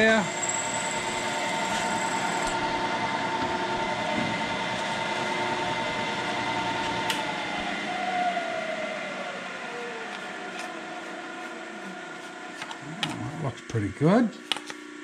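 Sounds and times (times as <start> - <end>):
higher whine: 0.0 - 13.7
milling machine motor whine: 0.0 - 14.1.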